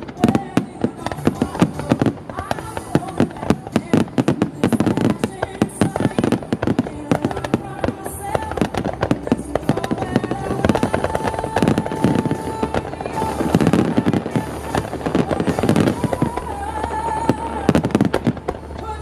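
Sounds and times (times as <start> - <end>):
fireworks bursting and crackling: 0.0 - 19.0
music over loudspeakers: 0.0 - 19.0.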